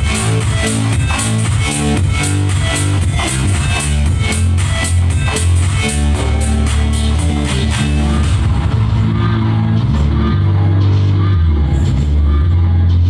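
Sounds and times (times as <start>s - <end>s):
rock song through speaker: 0.0s - 13.0s.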